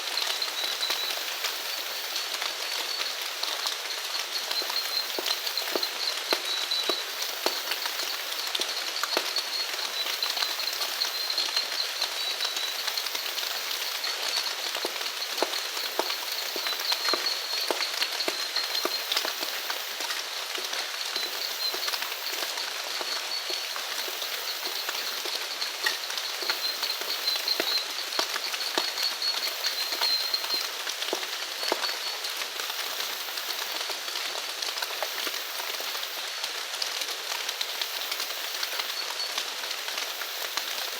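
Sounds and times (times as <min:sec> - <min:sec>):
rain drops tapping: 0:00.0 - 0:40.9.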